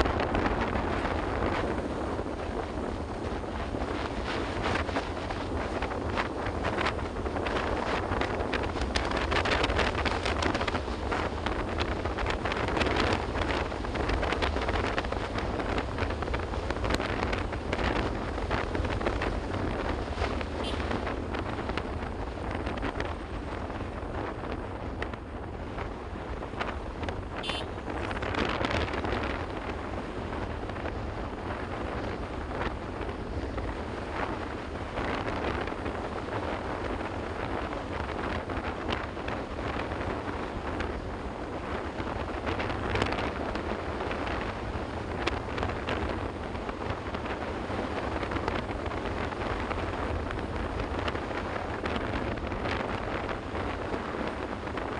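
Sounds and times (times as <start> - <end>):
motorcycle rumble: 0.0 - 54.9
road noise: 0.0 - 54.9
wind rushing over microphone: 0.0 - 54.9.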